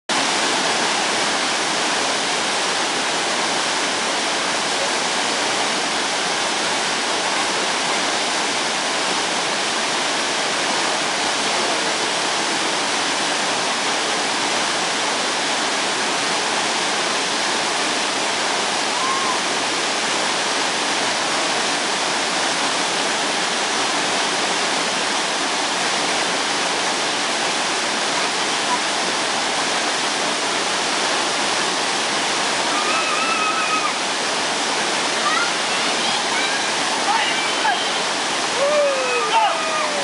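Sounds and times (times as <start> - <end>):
river rapids rushing: 0.1 - 40.0.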